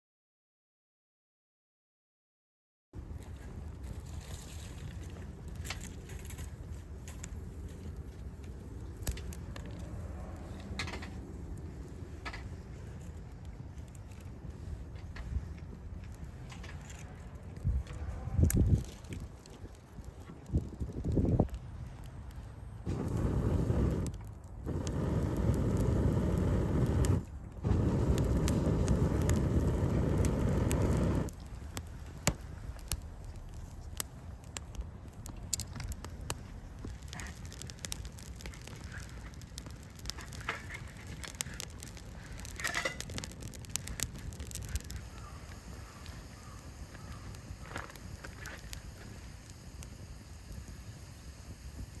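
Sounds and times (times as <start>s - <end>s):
campfire crackling and popping: 3.0s - 52.0s.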